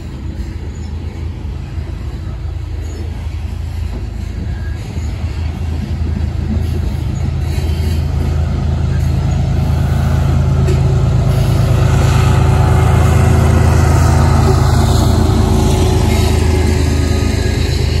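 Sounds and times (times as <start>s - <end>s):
diesel locomotive engine drone: 0.0s - 18.0s
train wheels clattering on rail: 0.0s - 18.0s.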